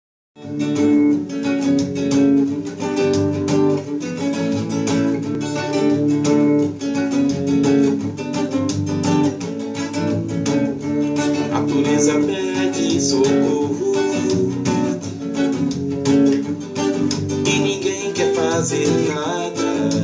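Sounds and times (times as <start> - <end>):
strummed acoustic guitar: 0.4 - 20.0.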